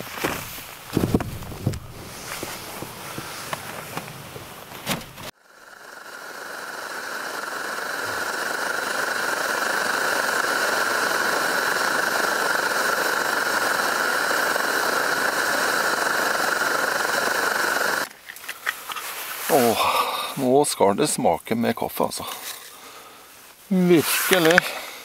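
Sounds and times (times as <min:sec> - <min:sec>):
camping stove hissing: 0:00.6 - 0:21.4, 0:22.0 - 0:25.0.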